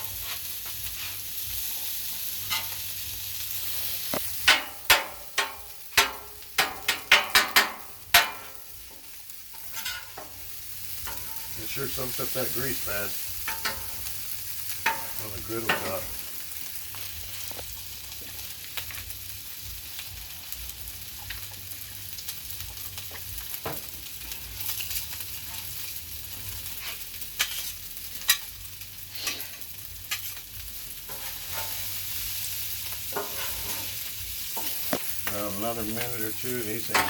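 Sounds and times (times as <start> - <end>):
spatula scraping on griddle: 0.0 - 18.5, 24.1 - 37.0
rice sizzling on griddle: 0.0 - 37.0.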